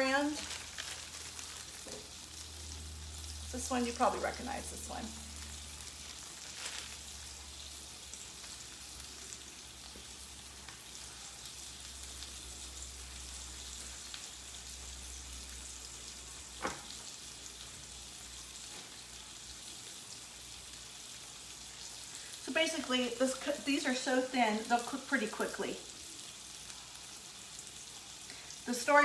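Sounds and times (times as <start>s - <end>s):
steaks sizzling in a pan: 0.0s - 29.0s.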